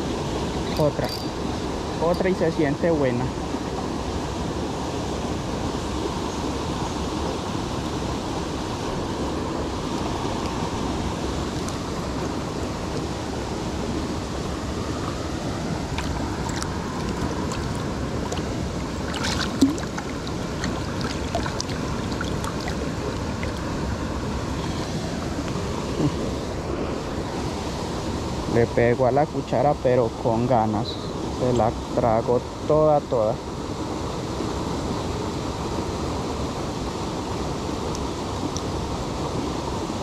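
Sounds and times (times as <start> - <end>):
stream rushing: 0.0 - 40.0.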